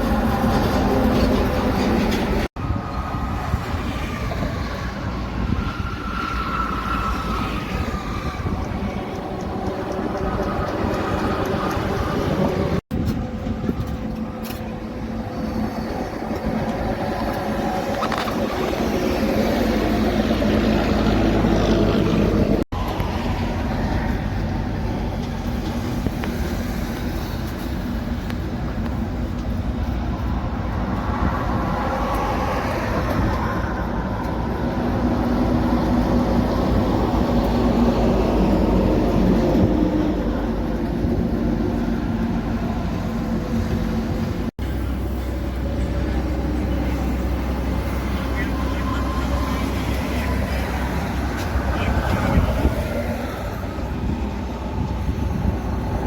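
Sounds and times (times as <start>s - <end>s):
heavy trucks driving past: 0.0s - 56.0s.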